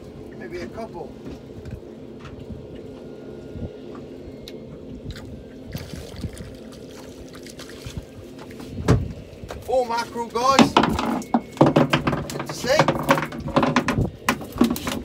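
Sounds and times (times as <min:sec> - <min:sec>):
boat engine humming: 0:00.0 - 0:15.0
water sloshing and trickling: 0:01.1 - 0:15.0.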